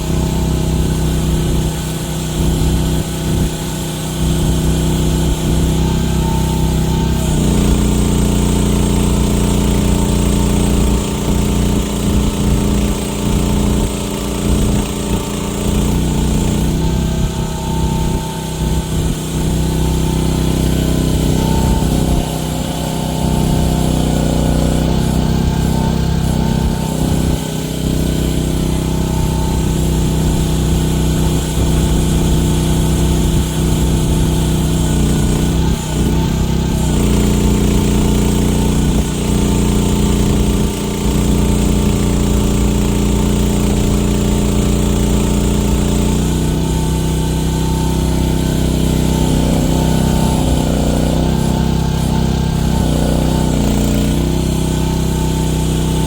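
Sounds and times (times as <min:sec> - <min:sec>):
mini excavator engine running: 0:00.0 - 0:56.0.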